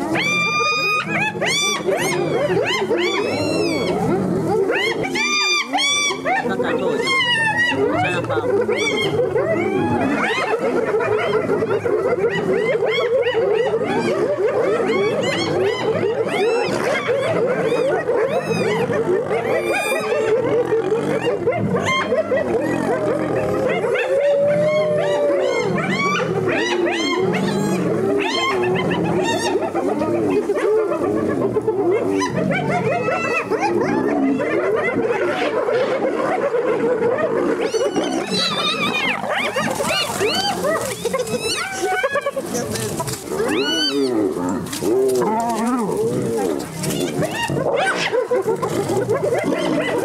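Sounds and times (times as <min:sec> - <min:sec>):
hyenas giggling and whooping: 0:00.0 - 0:50.0
lion snarls and growls: 0:00.0 - 0:50.0.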